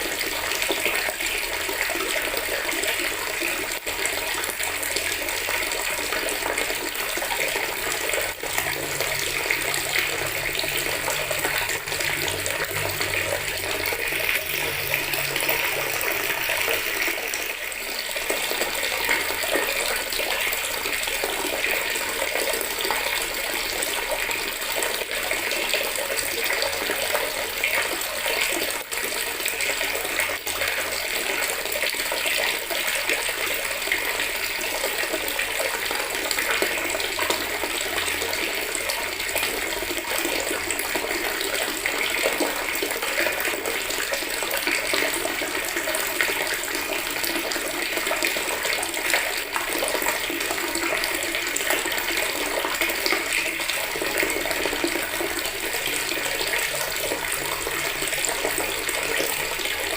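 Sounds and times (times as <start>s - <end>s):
tap water splashing into bucket: 0.0s - 59.9s.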